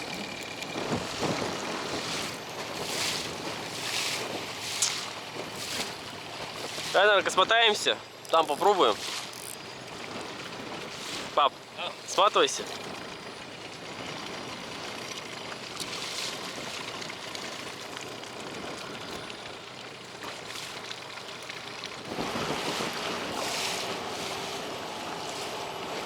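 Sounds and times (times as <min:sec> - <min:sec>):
water noise around boat: 0:00.0 - 0:26.0.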